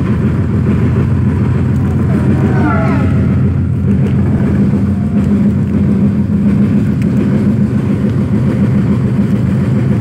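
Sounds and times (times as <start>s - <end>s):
train wheels humming on rails: 0.0s - 10.0s.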